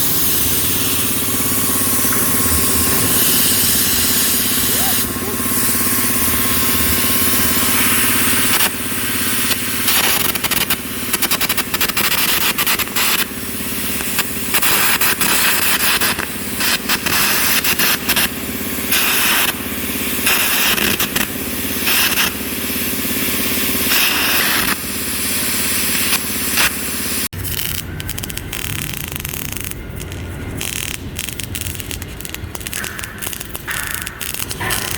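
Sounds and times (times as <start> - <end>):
steady machine hum: 0.0 - 11.9, 12.8 - 34.9
arc welding crackling hiss: 0.0 - 34.9.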